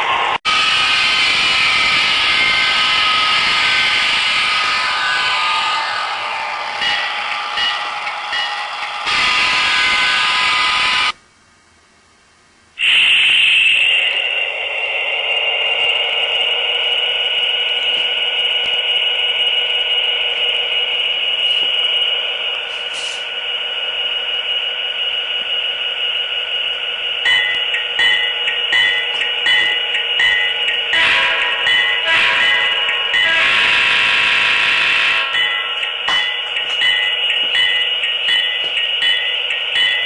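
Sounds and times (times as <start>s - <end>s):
model locomotive hum with whine: 0.0s - 11.2s, 12.8s - 40.0s.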